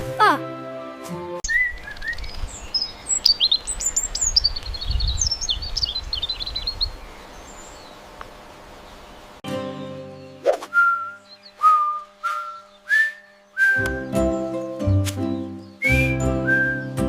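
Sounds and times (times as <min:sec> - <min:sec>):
small birds chirping: 0:01.4 - 0:10.4, 0:11.1 - 0:16.1.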